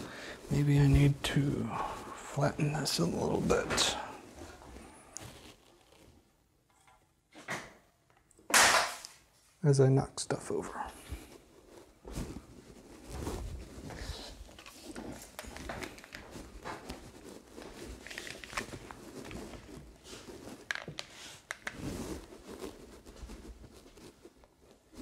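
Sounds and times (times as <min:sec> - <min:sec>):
footsteps: 0:00.0 - 0:06.1, 0:10.9 - 0:25.0.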